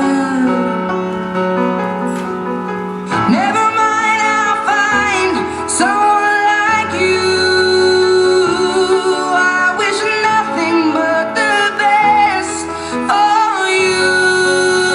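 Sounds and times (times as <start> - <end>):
pop song with singer: 0.0 - 2.3, 3.0 - 14.9.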